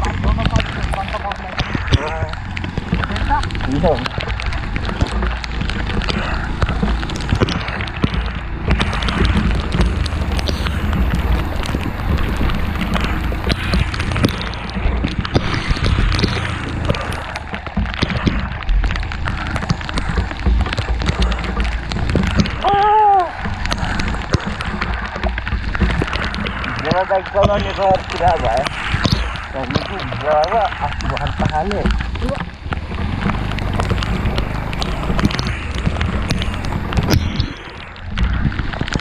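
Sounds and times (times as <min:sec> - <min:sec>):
raindrop ticks: 0:00.0 - 0:39.0
wind rumble on microphone: 0:00.0 - 0:39.0.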